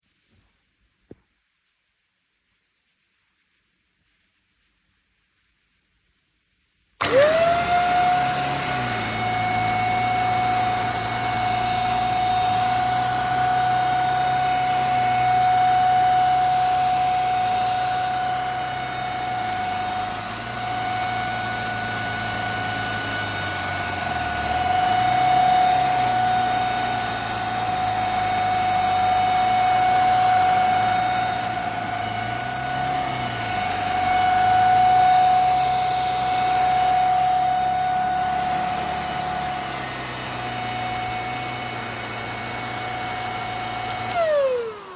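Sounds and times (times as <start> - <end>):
vacuum cleaner motor whine: 7.0 - 44.9.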